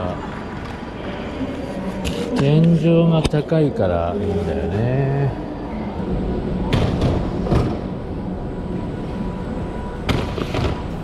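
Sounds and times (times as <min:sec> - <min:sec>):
low rumble of terminal hall: 0:00.0 - 0:11.0.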